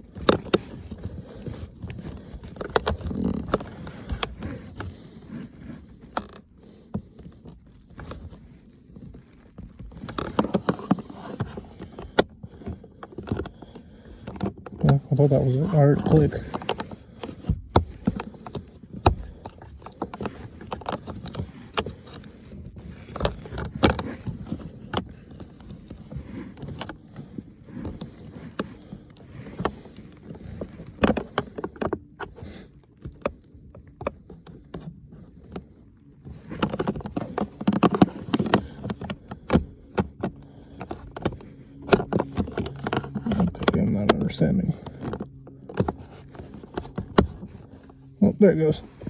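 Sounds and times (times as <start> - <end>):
plastic clicks knocks and scraping: 0.0 - 49.0.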